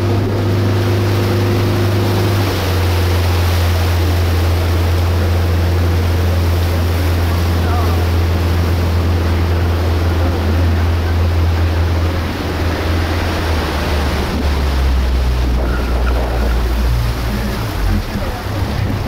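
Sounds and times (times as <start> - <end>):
motorboat engine droning: 0.0 - 19.0
water rushing past hull: 0.0 - 19.0.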